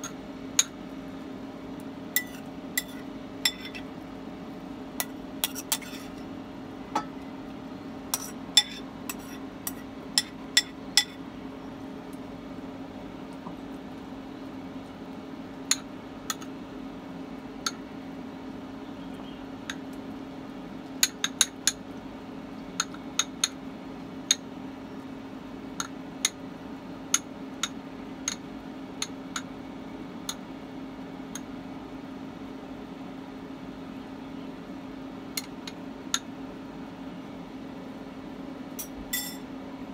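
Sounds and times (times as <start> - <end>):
induction cooktop hum: 0.0 - 39.9.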